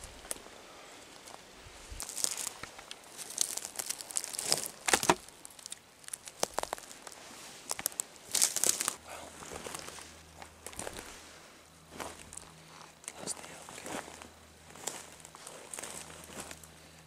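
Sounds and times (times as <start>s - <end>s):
twigs and leaves crackling underfoot: 0.0s - 17.0s.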